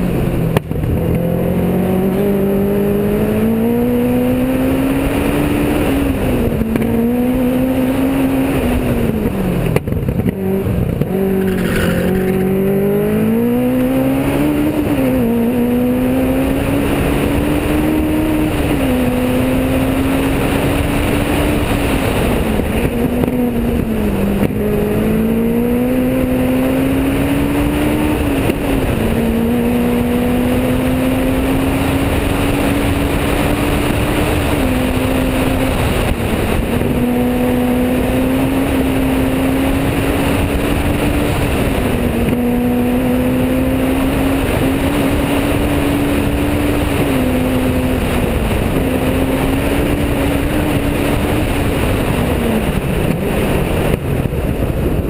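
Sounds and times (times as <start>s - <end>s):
car engine revving hard: 0.0s - 54.2s
road noise: 0.0s - 55.0s
wind noise: 0.0s - 55.0s.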